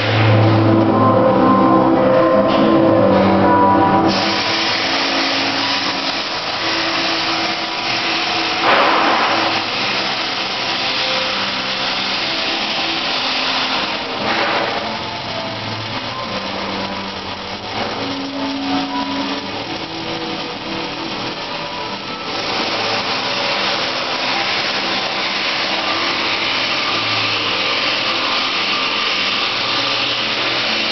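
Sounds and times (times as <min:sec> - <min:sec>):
arc welding hiss: 0:04.0 - 0:30.9.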